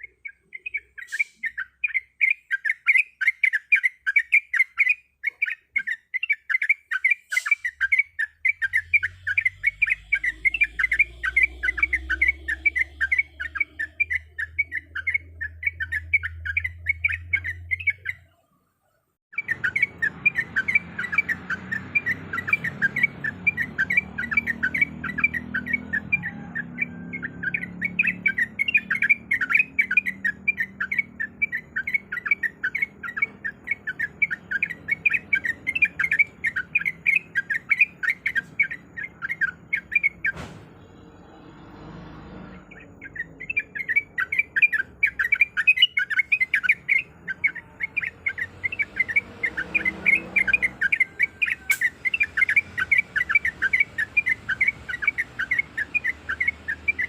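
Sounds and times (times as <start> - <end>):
bird chattering call: 0.0 - 18.4, 19.3 - 40.4, 42.6 - 57.0.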